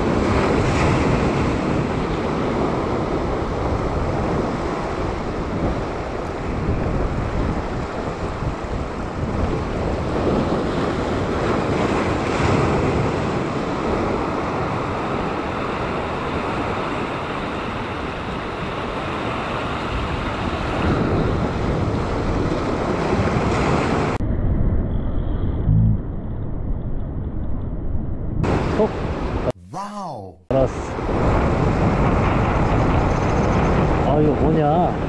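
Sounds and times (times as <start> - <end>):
wind buffeting the microphone: 0.0 - 25.6, 30.9 - 35.0.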